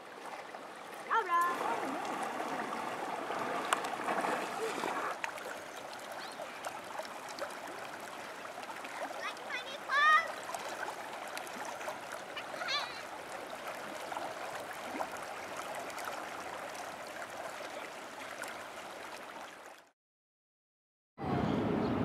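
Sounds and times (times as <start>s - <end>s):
stream water running: 0.0s - 19.9s.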